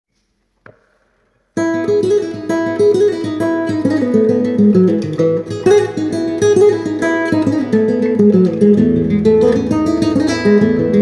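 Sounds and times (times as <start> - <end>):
plucked guitar melody: 1.6 - 11.0.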